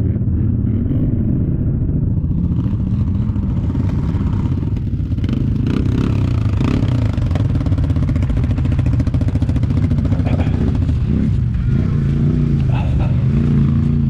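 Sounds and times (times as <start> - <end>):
quad engine running: 0.0 - 14.0.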